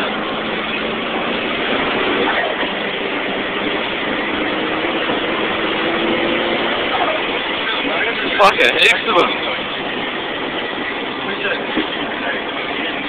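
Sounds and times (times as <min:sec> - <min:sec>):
car engine running: 0:00.0 - 0:13.0
road and wind noise: 0:00.0 - 0:13.0.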